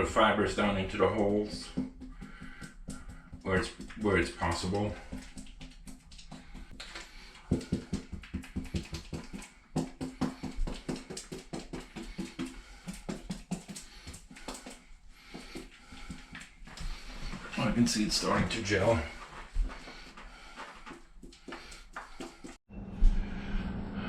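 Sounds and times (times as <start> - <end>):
brush dabbing wet fiberglass: 0.2 - 22.6.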